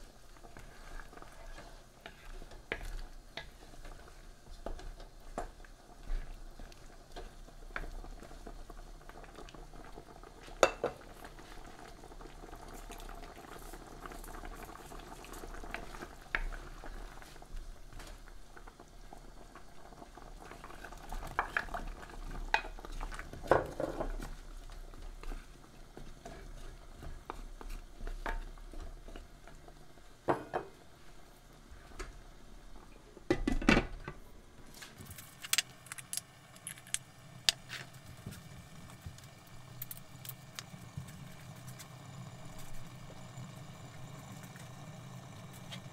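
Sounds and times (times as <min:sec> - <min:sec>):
sauce simmering and bubbling: 0:00.0 - 0:45.9.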